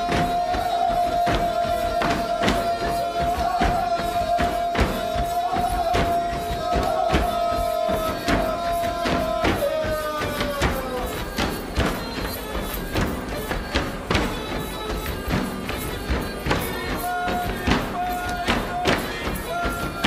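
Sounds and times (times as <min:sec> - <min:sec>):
dancers stamping feet: 0:00.0 - 0:20.0.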